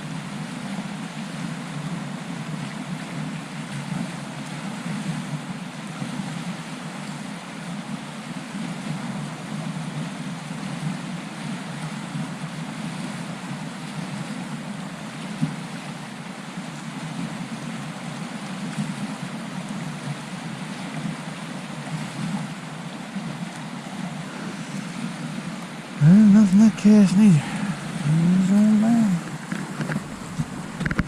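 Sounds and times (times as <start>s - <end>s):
stream water rushing: 0.0s - 31.0s.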